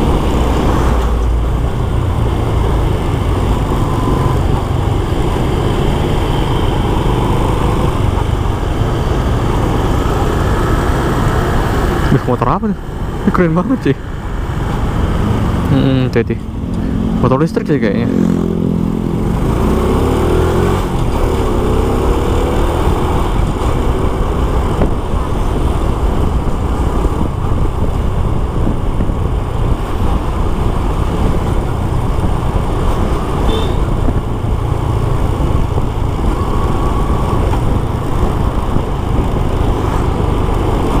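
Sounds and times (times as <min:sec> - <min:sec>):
road and traffic noise: 0:00.0 - 0:41.0.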